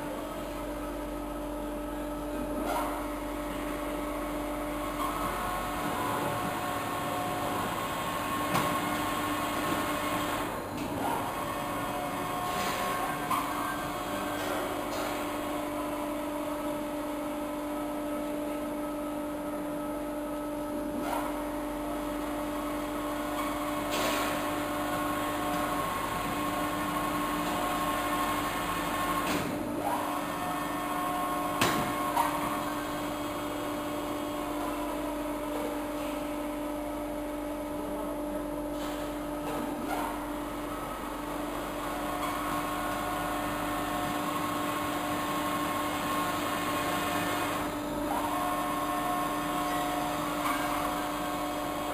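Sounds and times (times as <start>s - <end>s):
shredder machine hum and whine: 0.0s - 51.9s.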